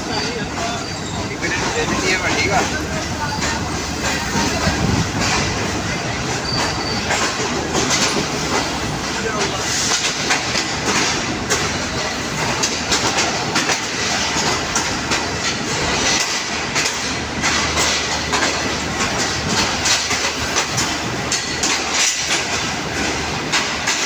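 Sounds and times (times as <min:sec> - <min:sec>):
train wheels rumbling: 0:00.0 - 0:24.0
wheels clattering over rail joints: 0:00.0 - 0:24.0.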